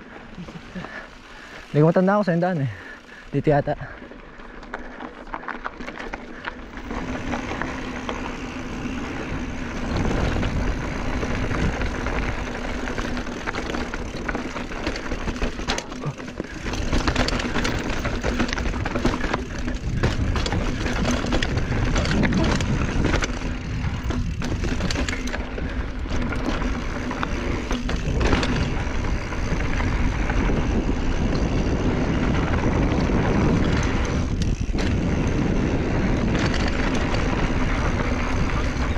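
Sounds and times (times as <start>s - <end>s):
bike clicking and rattling: 0.0s - 38.9s
bike tyres crunching over stones: 0.0s - 38.9s
wind buffeting microphone: 6.3s - 38.9s.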